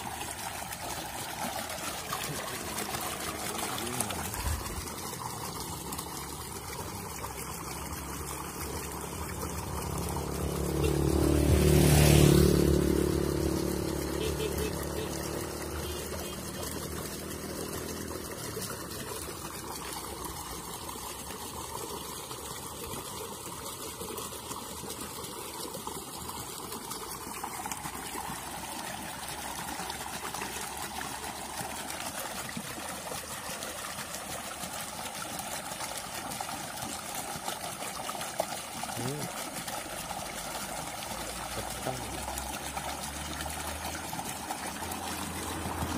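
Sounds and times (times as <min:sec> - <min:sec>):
water trickling: 0:00.0 - 0:45.9.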